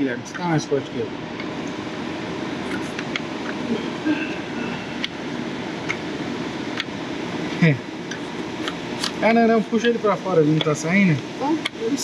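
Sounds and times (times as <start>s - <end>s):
steady mechanical running noise: 0.0s - 12.0s.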